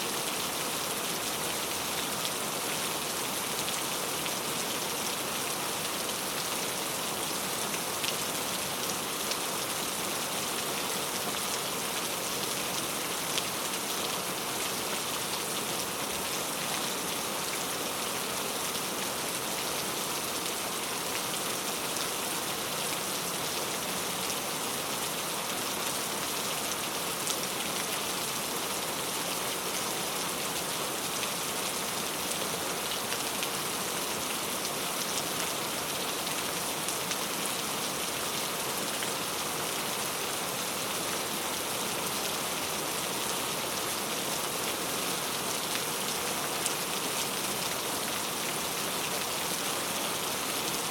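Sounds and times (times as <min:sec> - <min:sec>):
heavy rain on leaves: 0:00.0 - 0:50.9.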